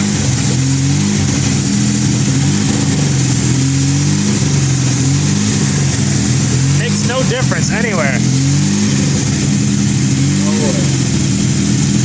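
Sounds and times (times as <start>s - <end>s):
rotary engine idling: 0.0s - 12.0s.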